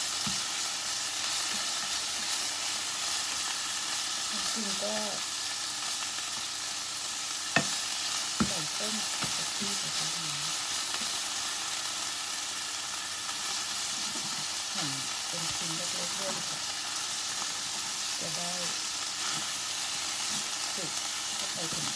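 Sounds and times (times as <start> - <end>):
meat sizzling in a pan: 0.0 - 21.9.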